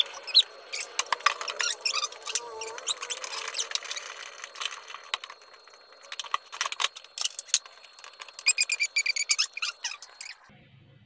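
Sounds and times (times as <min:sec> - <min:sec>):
high squeaks: 0:00.0 - 0:10.5.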